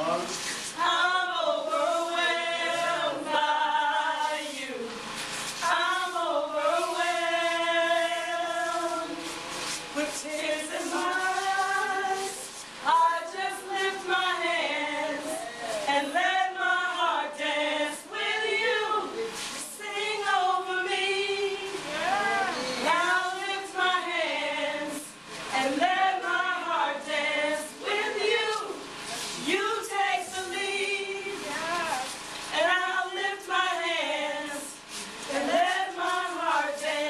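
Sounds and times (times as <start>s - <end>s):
choir singing a worship song: 0.0s - 37.0s.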